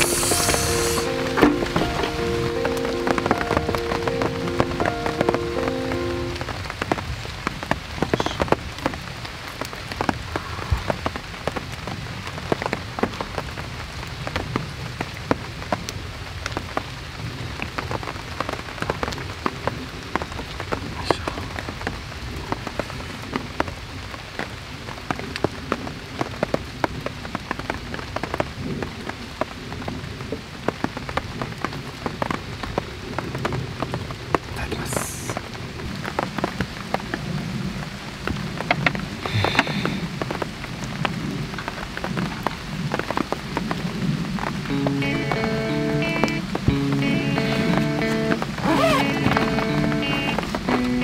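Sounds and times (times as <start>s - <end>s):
heavy rain falling: 0.0s - 51.0s
raindrops ticking on a surface: 0.0s - 51.0s.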